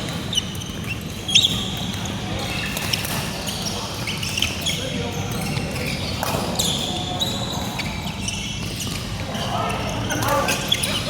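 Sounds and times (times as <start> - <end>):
shoes squeaking on court floor: 0.0 - 11.0
voices in a hall: 0.0 - 11.0.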